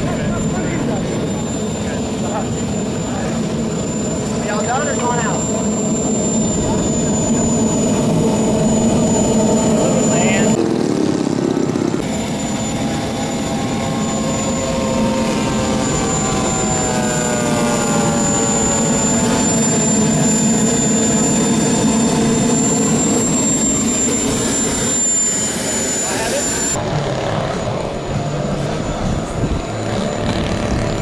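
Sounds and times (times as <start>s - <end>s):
model aircraft engine whining: 0.0s - 31.0s.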